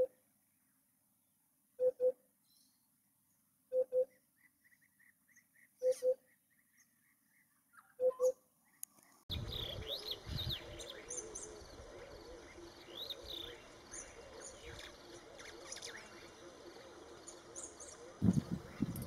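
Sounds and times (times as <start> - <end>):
birds chirping and calling: 3.7 - 19.0.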